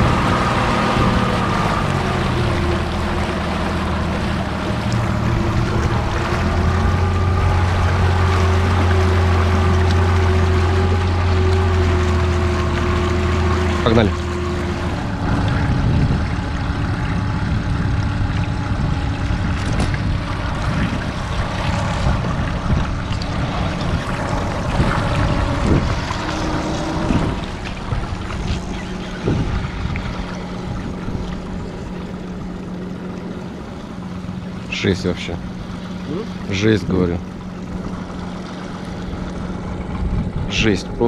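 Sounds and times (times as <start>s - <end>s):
boat motor running: 0.0s - 41.0s
water and wind noise: 0.0s - 41.0s.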